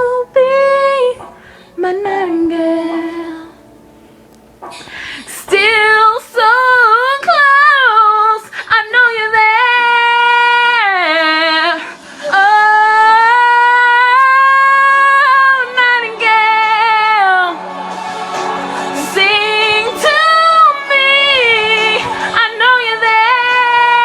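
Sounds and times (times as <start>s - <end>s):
woman singing a ballad: 0.0s - 3.8s, 4.8s - 17.7s, 18.8s - 24.0s.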